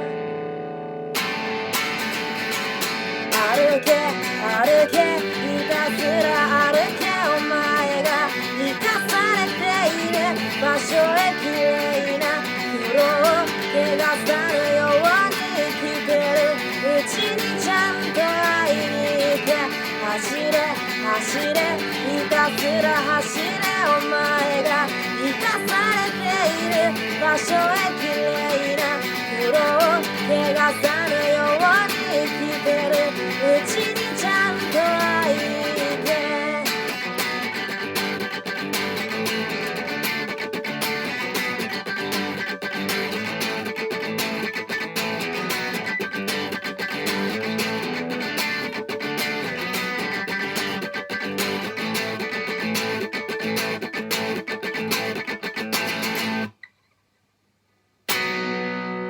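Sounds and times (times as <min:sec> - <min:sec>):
gliding lead guitar melody: 0:00.0 - 0:56.6, 0:58.1 - 0:59.0
strummed guitar chords: 0:00.0 - 0:56.6, 0:58.1 - 0:59.0.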